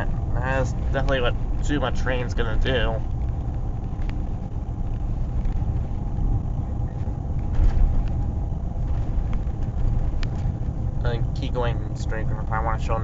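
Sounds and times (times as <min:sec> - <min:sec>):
car driving heard from inside: 0:00.0 - 0:13.0.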